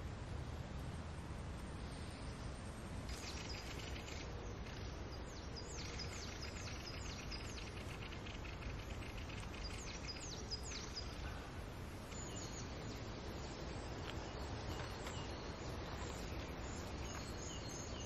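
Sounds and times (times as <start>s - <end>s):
low background hiss: 0.0s - 18.0s
songbird singing: 1.8s - 18.0s.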